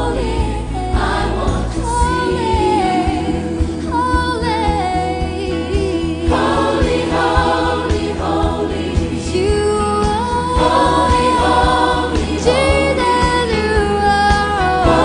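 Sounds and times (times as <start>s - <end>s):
gospel choir singing: 0.0s - 15.0s
low instrumental backing: 0.0s - 15.0s.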